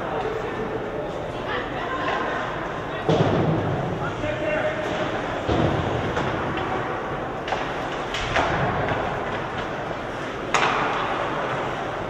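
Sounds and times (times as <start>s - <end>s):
hockey sticks and puck clacking: 0.0s - 0.6s, 2.0s - 12.0s.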